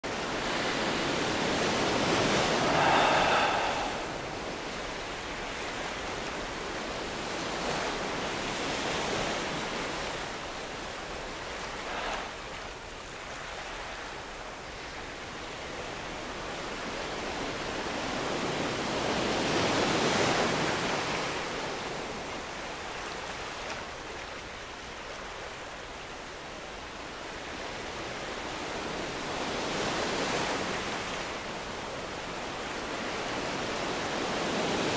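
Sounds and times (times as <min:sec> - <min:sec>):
ocean waves washing in: 0:00.0 - 0:34.9.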